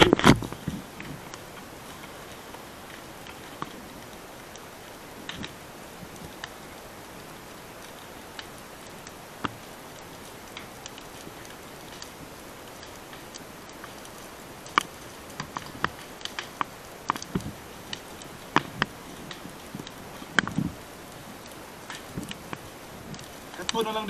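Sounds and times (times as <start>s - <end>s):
burning grass crackling: 0.0s - 24.0s.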